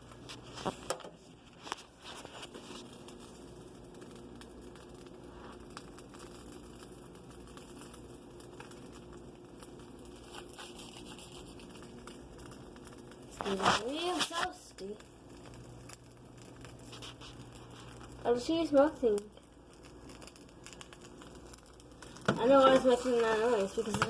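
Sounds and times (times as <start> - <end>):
sandwich sizzling in a pan: 0.0 - 24.0.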